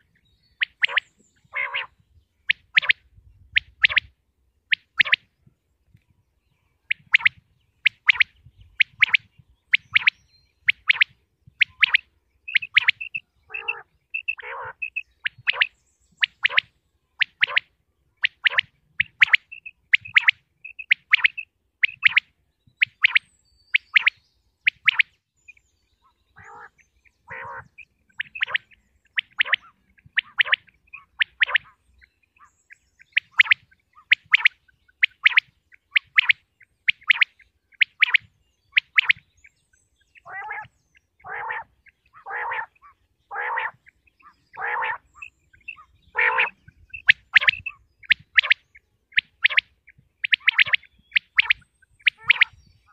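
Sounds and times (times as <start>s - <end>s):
lower rougher bird calls: 0.0s - 4.1s, 6.4s - 52.9s
quail calling: 0.6s - 3.0s, 4.7s - 5.3s, 6.9s - 23.2s, 26.0s - 31.8s, 32.4s - 39.2s, 40.2s - 52.9s.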